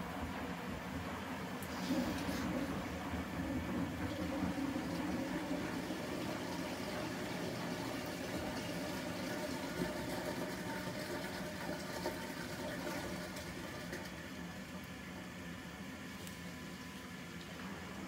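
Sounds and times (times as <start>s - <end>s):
water splashing into washing machine: 0.3s - 15.2s.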